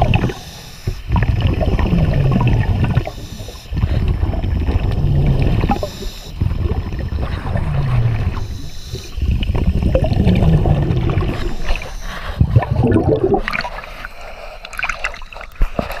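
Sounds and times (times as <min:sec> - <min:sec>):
diver breathing through regulator: 0:00.0 - 0:16.0
water splashing: 0:00.0 - 0:16.0.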